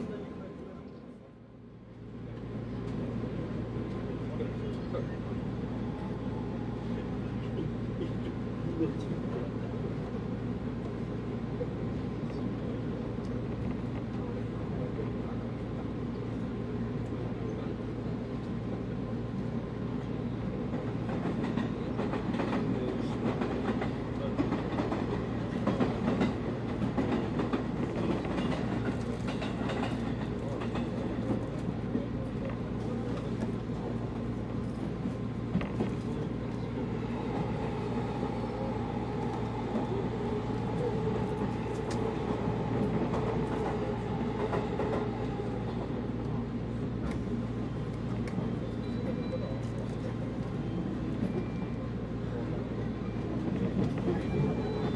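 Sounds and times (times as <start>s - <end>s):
electric train rumble and hum: 0.0s - 54.9s.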